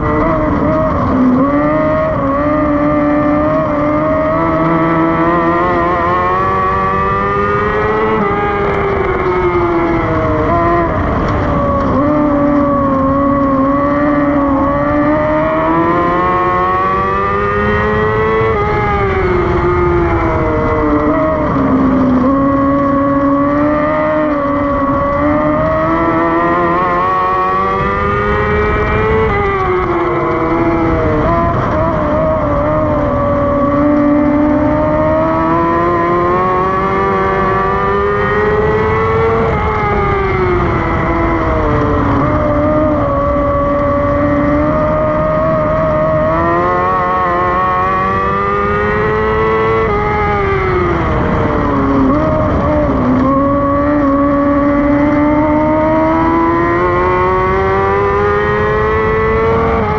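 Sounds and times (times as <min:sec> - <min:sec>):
racing car engine revving: 0:00.0 - 0:59.9
wind noise: 0:00.0 - 0:59.9.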